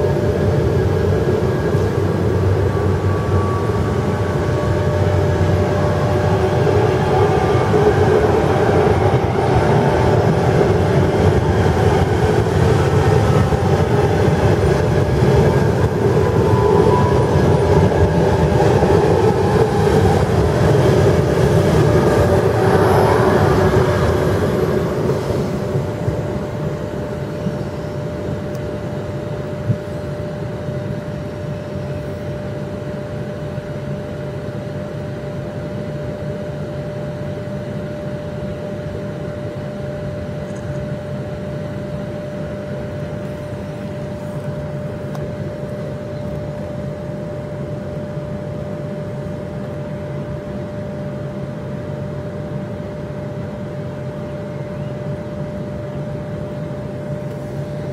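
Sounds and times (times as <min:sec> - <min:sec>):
departing train: 0:00.0 - 0:57.9
steady machine hum with whine: 0:00.0 - 0:57.9.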